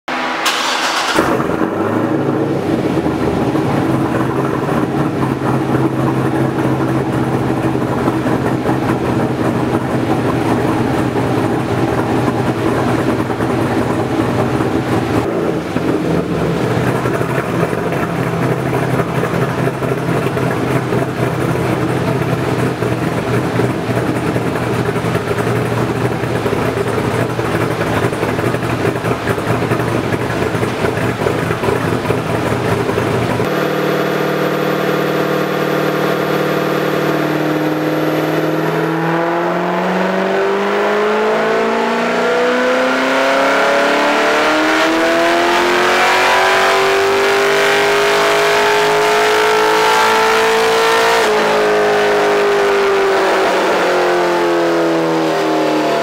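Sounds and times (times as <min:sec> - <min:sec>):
car engine idling: 0:00.1 - 0:56.0.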